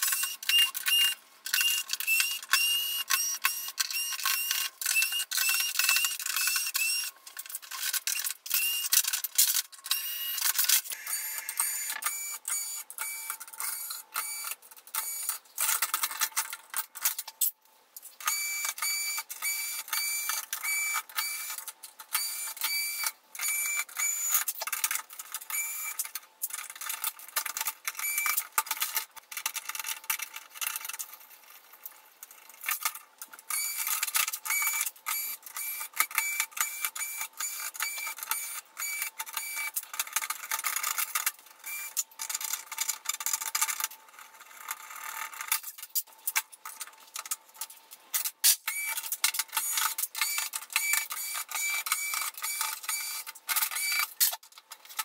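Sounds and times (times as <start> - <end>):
clatter of tools and parts: 0.0 - 55.0.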